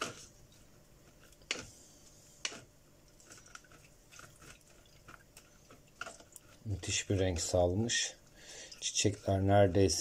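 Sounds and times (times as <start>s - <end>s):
soft wet squishing: 0.0s - 10.0s.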